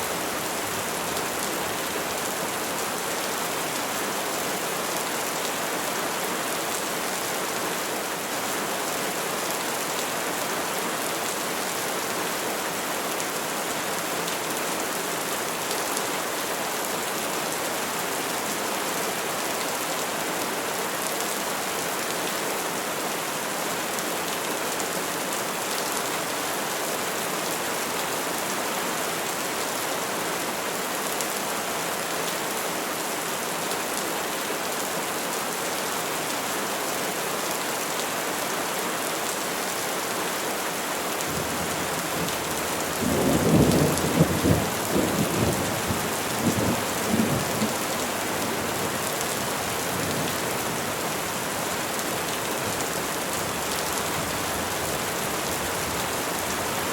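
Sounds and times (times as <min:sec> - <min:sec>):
rain falling on trees: 0:00.0 - 0:56.9.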